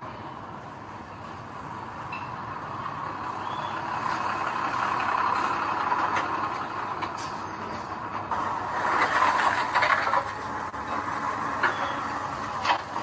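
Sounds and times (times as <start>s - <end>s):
heavy machinery engine: 0.0s - 13.0s.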